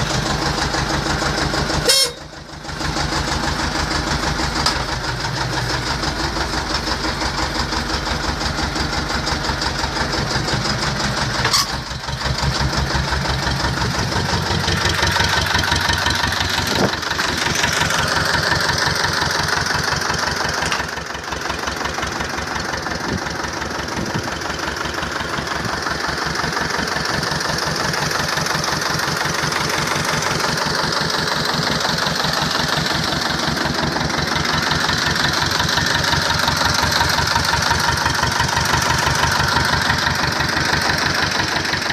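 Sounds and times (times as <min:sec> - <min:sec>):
tractor diesel engine chugging: 0:00.0 - 0:41.9.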